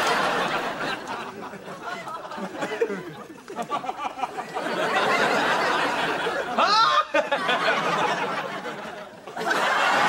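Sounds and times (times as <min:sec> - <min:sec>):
studio audience laughing: 0:00.0 - 0:10.0.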